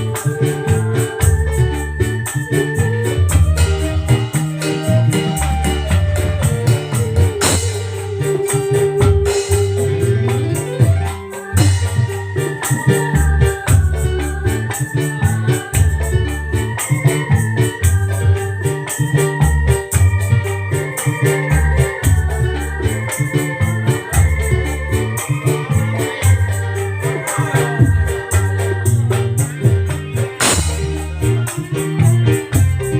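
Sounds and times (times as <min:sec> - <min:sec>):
loud music through sound system: 0:00.0 - 0:32.9.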